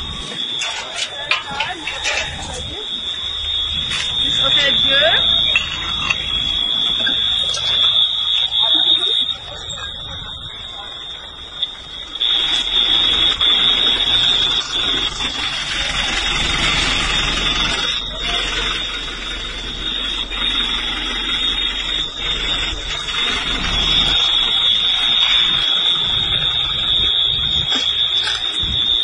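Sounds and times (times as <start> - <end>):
high-pitched alarm tone: 0.0 - 29.0.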